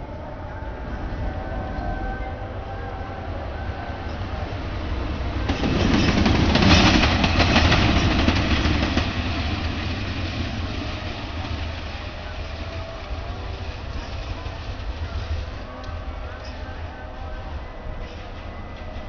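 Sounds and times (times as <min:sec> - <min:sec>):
locomotive engine rumble: 0:00.0 - 0:19.0.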